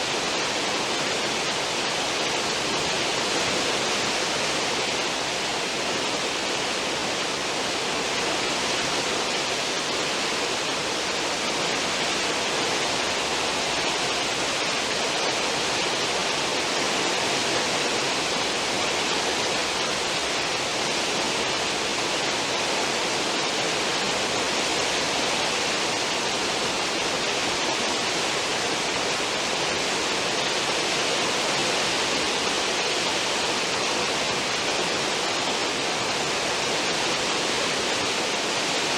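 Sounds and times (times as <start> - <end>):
ship wake water rushing: 0.0 - 38.9.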